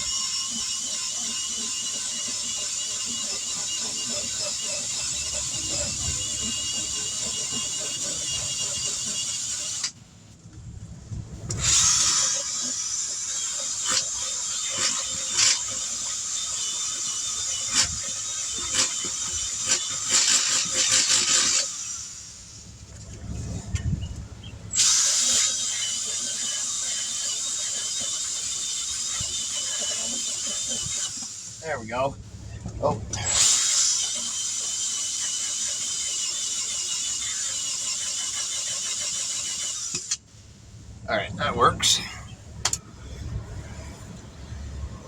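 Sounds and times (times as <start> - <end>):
power tool whining: 0.0 - 10.0, 11.4 - 24.1, 24.7 - 31.6, 32.4 - 40.3.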